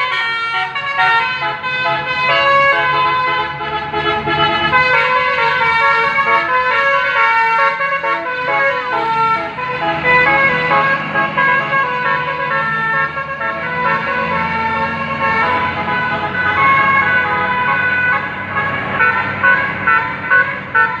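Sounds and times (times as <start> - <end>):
multi-tone bus horn melody: 0.0 - 21.0.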